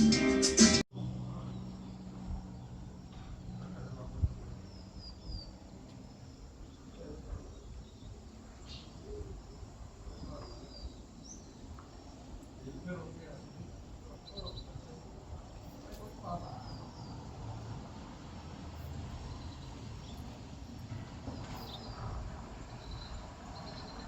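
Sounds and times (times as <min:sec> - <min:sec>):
small birds chirping: 0:01.3 - 0:24.0.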